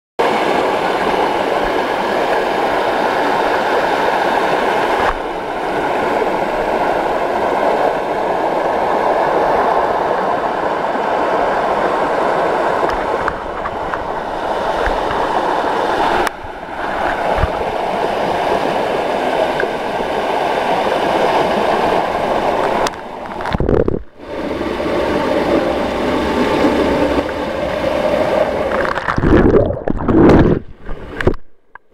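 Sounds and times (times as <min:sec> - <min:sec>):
water rushing over dam: 0:00.2 - 0:31.2.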